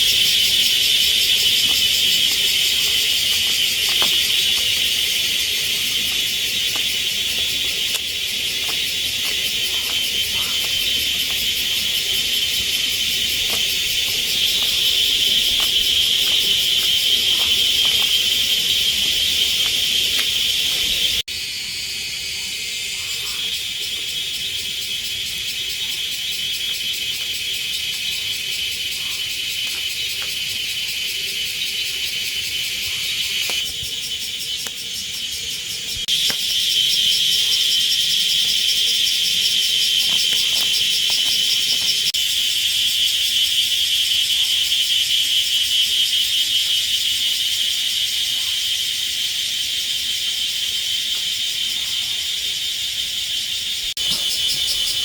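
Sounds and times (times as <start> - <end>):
insect chorus chirring: 0.0 - 55.0.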